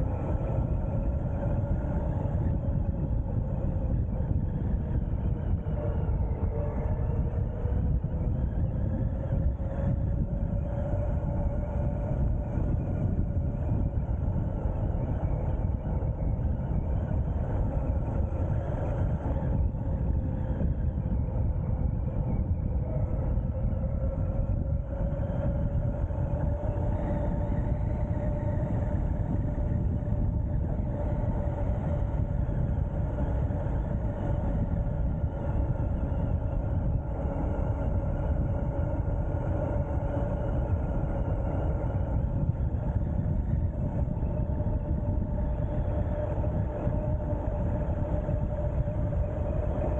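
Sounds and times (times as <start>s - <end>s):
electric motor whine: 0.0s - 49.9s
wind rushing over microphone: 0.0s - 49.9s.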